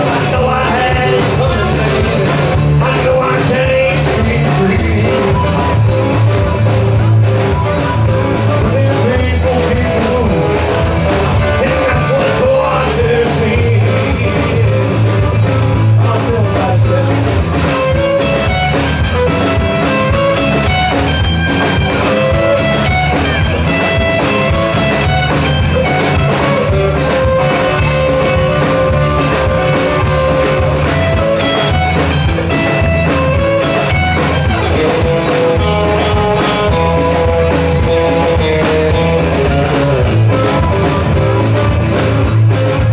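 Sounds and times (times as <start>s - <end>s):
drum kit keeping the beat: 0.0s - 42.9s
electric bass: 0.0s - 42.9s
electric guitar: 0.0s - 42.9s
strummed acoustic guitar: 0.0s - 42.9s.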